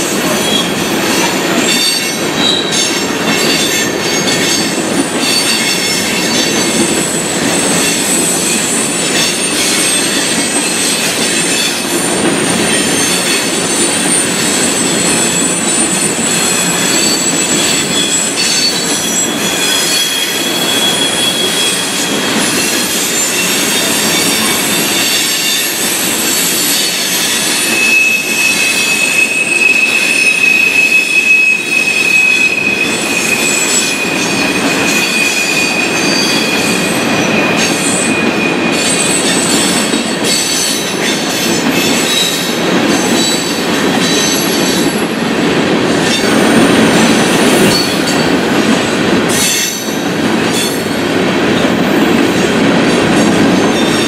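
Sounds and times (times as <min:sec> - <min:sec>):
high wheel squeal: 0:00.0 - 0:06.9, 0:07.5 - 0:45.1
train wheels rumbling on rail: 0:00.0 - 0:54.0.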